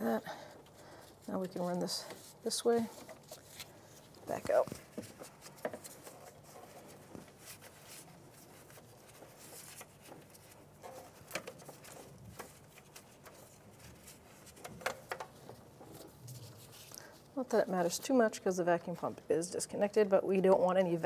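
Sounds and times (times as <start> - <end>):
hose handling rustling: 0.6 - 17.9.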